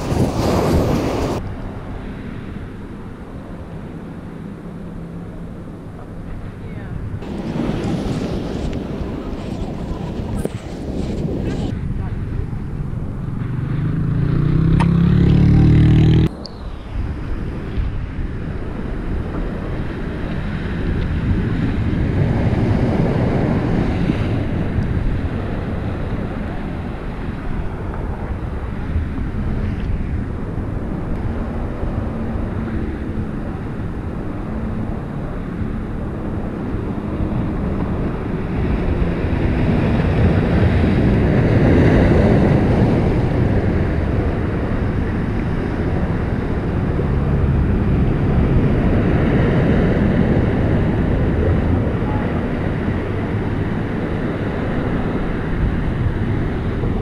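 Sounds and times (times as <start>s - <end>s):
wind buffeting microphone: 0.0s - 2.0s, 6.0s - 57.0s.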